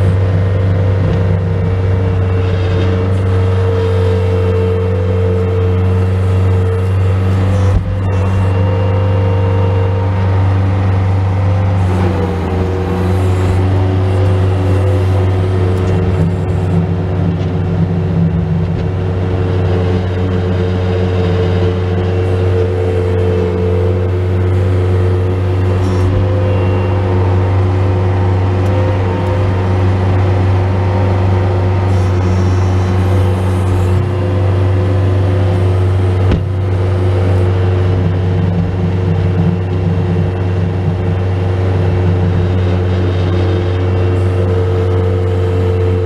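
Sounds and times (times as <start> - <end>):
diesel engine running under load: 0.0 - 46.0.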